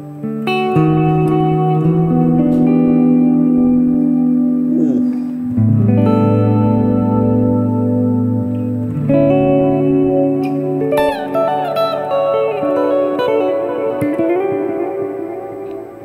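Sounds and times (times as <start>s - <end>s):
electric guitar chords with reverb: 0.0s - 16.0s.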